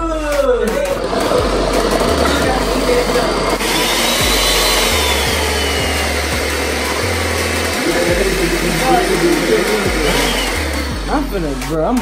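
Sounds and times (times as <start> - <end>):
blender motor grinding: 0.7 - 12.0.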